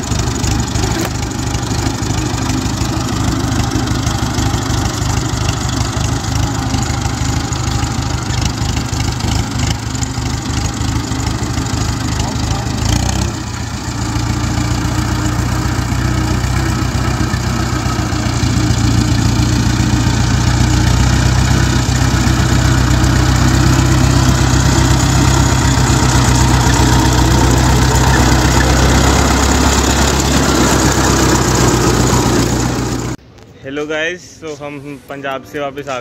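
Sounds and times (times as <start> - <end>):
tractor diesel engine running: 0.0 - 33.2.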